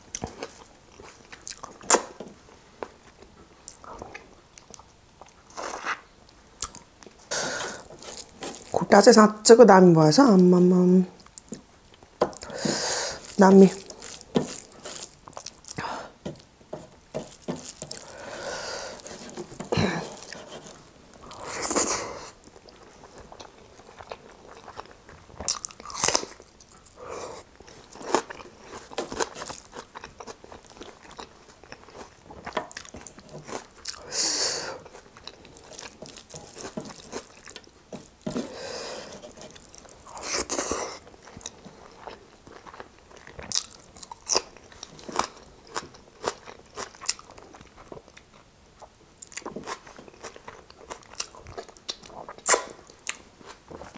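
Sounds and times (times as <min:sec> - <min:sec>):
person chewing and biting food: 0:03.7 - 0:08.8, 0:11.2 - 0:53.9.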